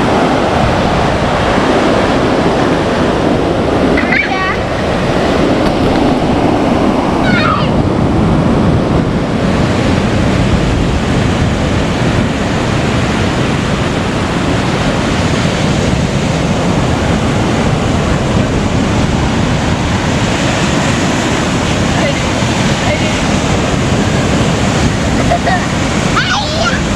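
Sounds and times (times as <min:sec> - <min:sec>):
ocean surf washing in: 0:00.0 - 0:26.9
wind noise on microphone: 0:00.0 - 0:26.9.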